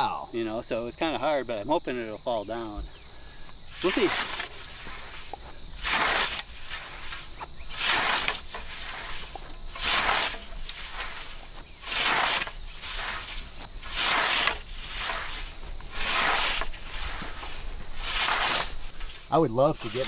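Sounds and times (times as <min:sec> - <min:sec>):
high-pitched insect drone: 0:00.0 - 0:20.0
scythe swishing through grass: 0:03.8 - 0:20.0.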